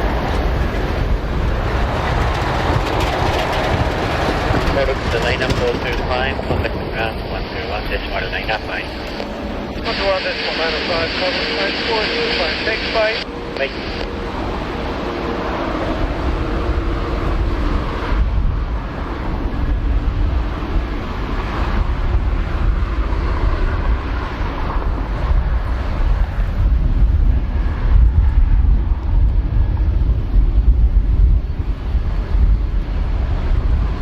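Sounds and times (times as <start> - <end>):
jet engines rumbling: 0.0 - 34.0
wind buffeting microphone: 0.0 - 34.0.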